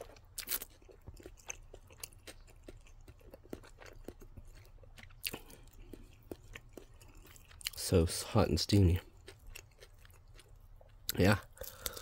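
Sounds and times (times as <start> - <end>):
chewing crispy chicken: 0.0 - 12.0.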